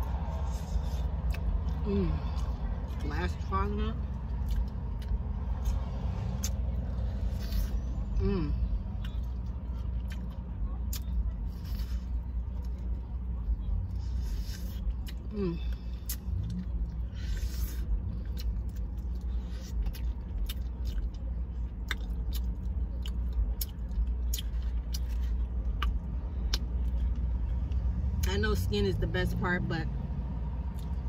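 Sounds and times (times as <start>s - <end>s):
person chewing crispy fried chicken: 0.0s - 7.9s, 8.7s - 27.7s
low rumble of car cabin: 0.0s - 31.0s.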